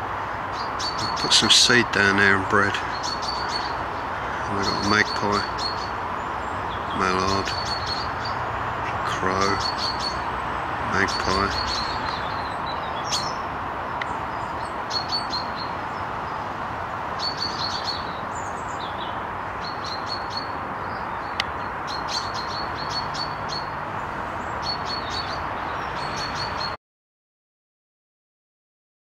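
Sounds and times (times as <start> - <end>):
steady background hiss: 0.0 - 26.7
songbirds chirping: 0.0 - 26.8.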